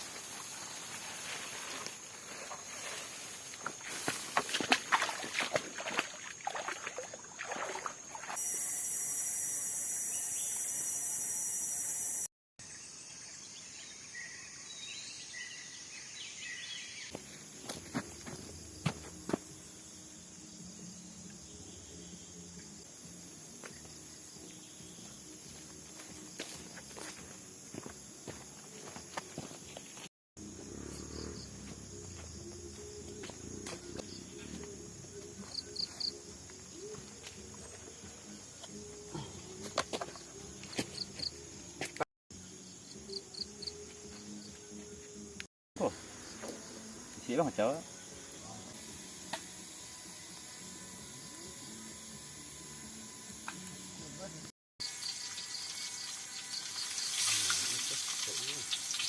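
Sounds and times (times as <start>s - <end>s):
forest insects droning: 0.0s - 59.0s.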